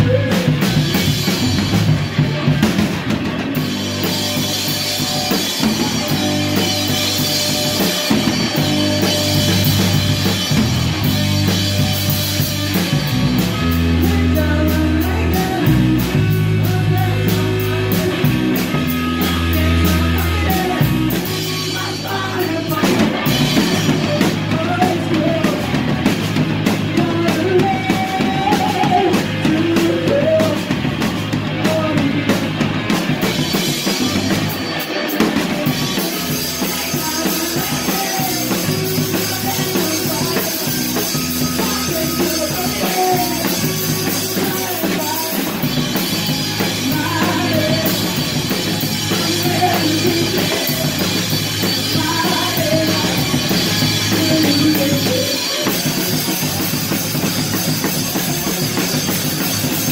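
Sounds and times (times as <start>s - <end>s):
drums and cymbals: 0.0s - 59.9s
live rock band playing: 0.0s - 59.9s.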